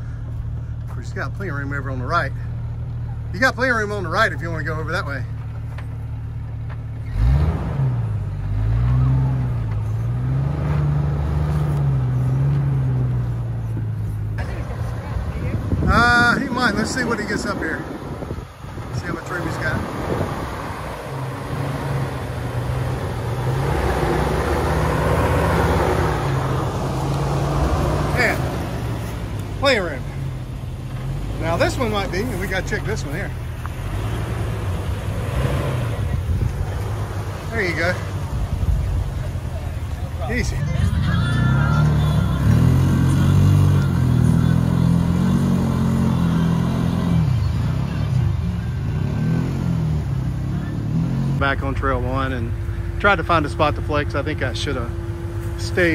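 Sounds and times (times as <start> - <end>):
engine running at low revs: 0.0 - 55.9.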